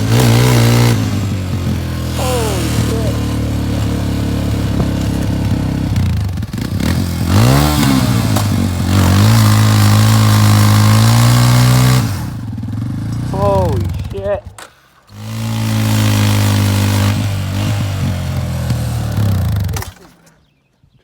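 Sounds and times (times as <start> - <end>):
engine running under load: 0.0 - 14.1, 14.7 - 20.2.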